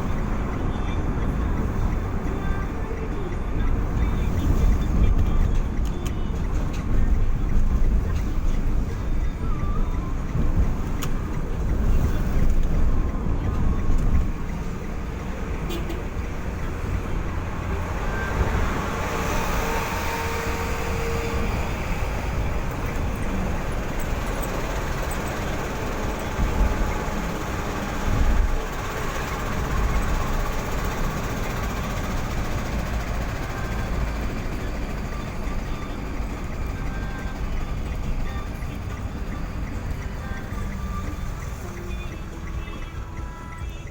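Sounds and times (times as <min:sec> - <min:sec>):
road vehicle rumble: 0:00.0 - 0:43.9.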